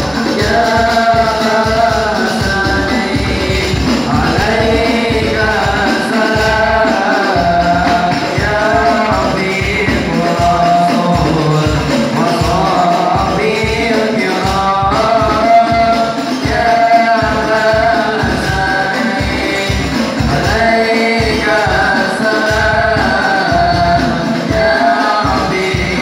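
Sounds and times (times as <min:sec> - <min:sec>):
bass drum: 0:00.0 - 0:26.0
frame drums beating: 0:00.0 - 0:26.0
men singing together: 0:00.0 - 0:26.0.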